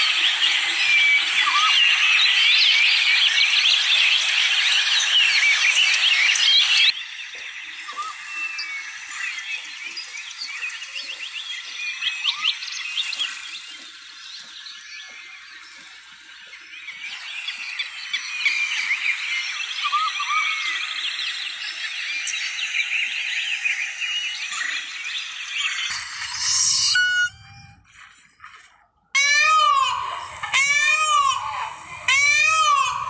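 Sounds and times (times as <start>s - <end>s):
birds chirping and calling: 0.0s - 28.6s, 29.2s - 33.0s.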